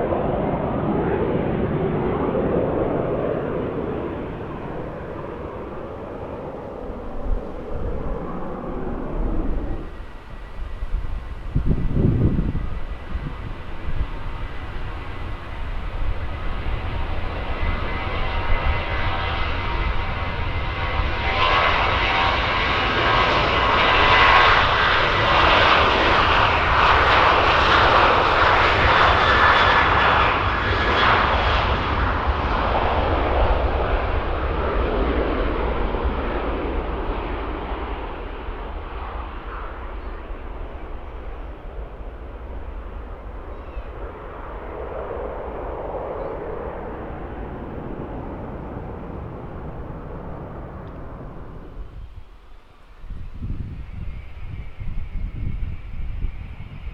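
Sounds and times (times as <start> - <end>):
high whining fan tone: 0.0 - 56.9
jet engines departing: 0.0 - 56.9.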